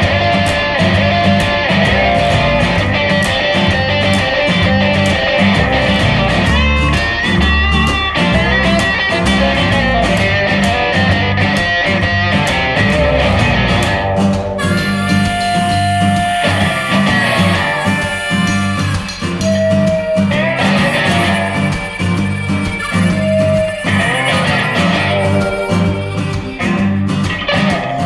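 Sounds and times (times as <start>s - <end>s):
guitar: 0.0s - 28.0s
rock music: 0.0s - 28.0s
steady drum beat: 0.0s - 28.0s.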